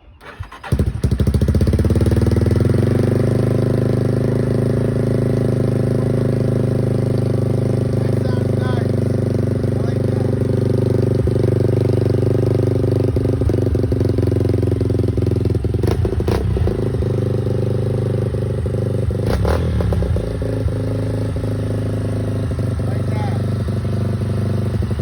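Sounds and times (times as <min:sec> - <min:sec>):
quad engine idling: 0:00.2 - 0:25.0.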